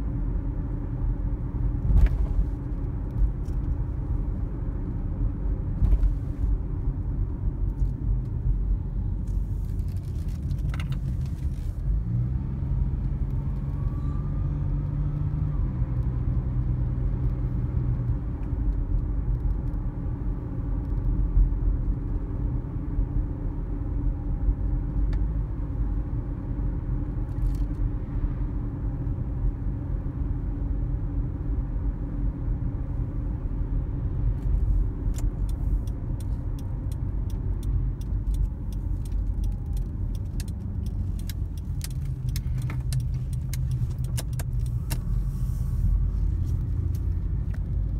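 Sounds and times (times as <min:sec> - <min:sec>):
car tyres and engine rumble: 0:00.0 - 0:47.9.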